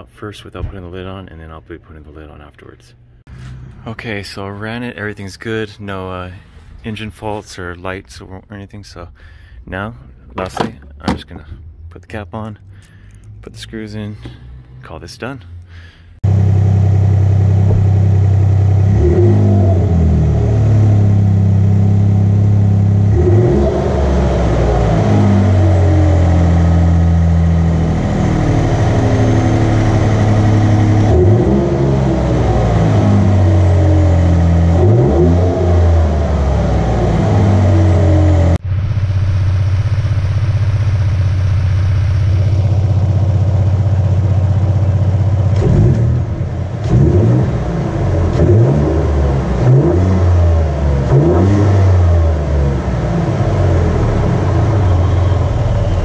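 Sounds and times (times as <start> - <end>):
truck engine idling and revving: 3.0 - 7.4, 9.4 - 56.0.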